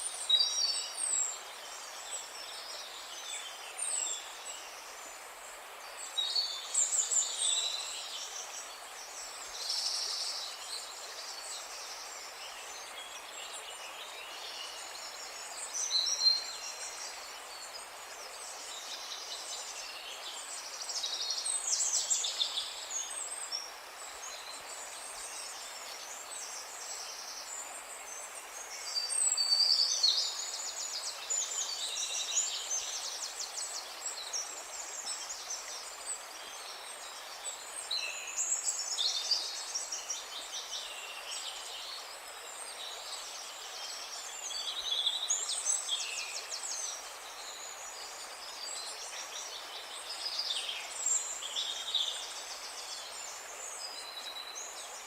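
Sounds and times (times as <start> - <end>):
soft background hiss: 0.0 - 55.0
songbirds singing and calling: 0.0 - 55.0.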